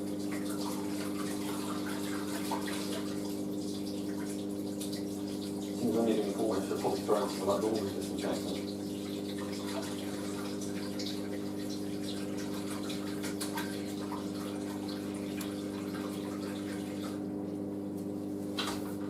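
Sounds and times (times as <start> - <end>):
water trickling and splashing: 0.0 - 17.2
drain pump humming: 0.0 - 19.0.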